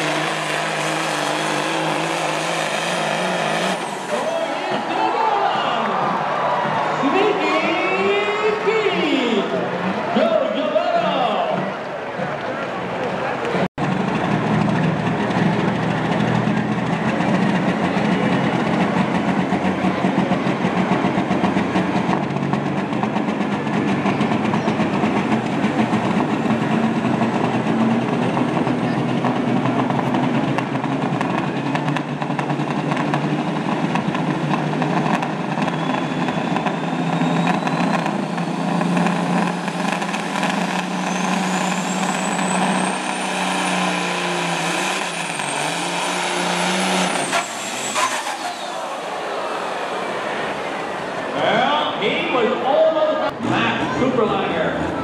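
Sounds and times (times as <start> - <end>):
diesel truck engine under load: 0.0 - 55.0.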